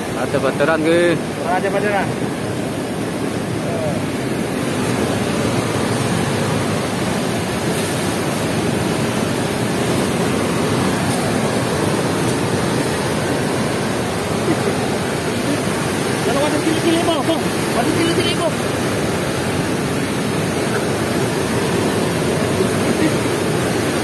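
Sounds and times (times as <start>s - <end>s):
water rushing through weir gates: 0.0s - 24.0s.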